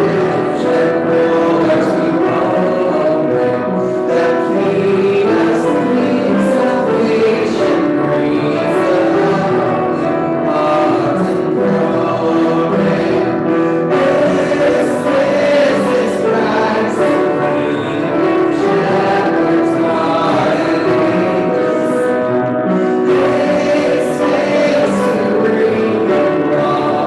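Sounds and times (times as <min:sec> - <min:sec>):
piano accompaniment: 0:00.0 - 0:27.0
voices singing a hymn: 0:00.0 - 0:27.0.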